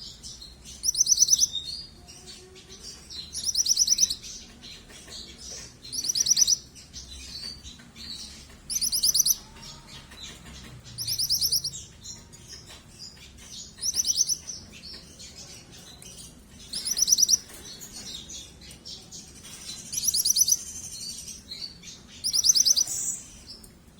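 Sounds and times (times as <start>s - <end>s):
songbird high-pitched chirps: 0.0s - 23.8s.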